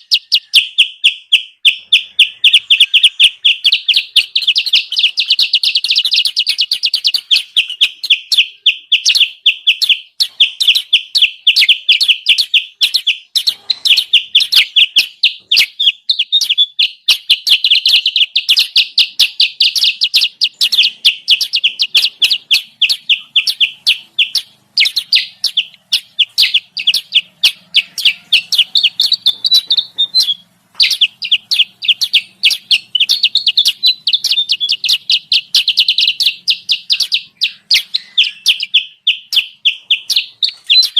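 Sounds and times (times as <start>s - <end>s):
rapid high bird chirps: 0.0s - 40.9s.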